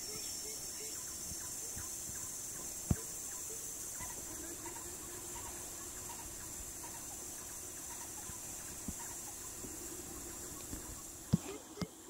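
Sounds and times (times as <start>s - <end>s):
high insect hiss: 0.0s - 12.0s.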